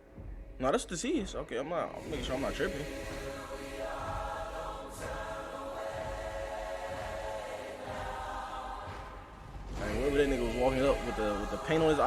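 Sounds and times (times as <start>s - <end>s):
choir holding long chords: 2.0s - 12.0s.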